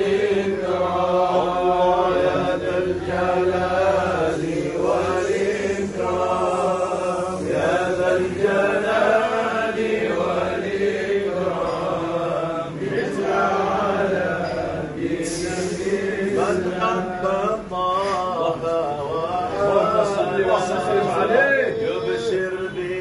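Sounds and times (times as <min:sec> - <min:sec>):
men chanting without instruments: 0:00.0 - 0:23.0.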